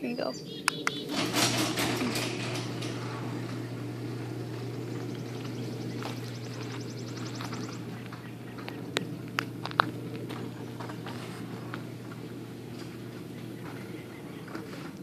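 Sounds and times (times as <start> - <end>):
garage door opener motor hum: 0.4 - 15.0
garage door rumbling: 0.6 - 15.0.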